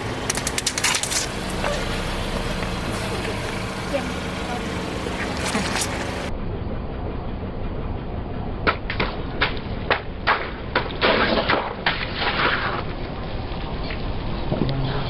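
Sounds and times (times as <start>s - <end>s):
car engine running low: 0.0s - 12.2s.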